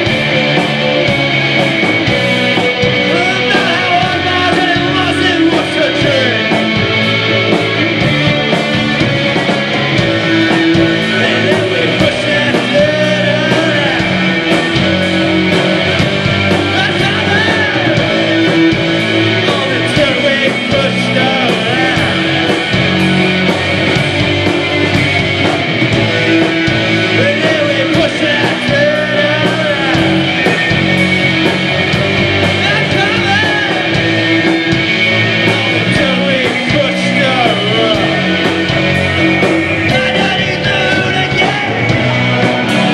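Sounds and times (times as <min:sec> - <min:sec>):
bass guitar: 0:00.0 - 0:42.9
drums: 0:00.0 - 0:42.9
electric guitar: 0:00.0 - 0:42.9
person singing: 0:02.5 - 0:23.7, 0:26.0 - 0:31.6, 0:32.4 - 0:42.9.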